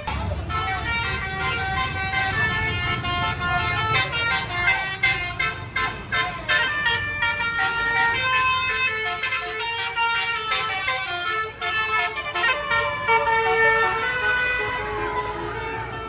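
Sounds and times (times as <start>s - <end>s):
bus engine rumble: 0.0s - 16.0s
bus musical horn melody: 0.0s - 16.0s.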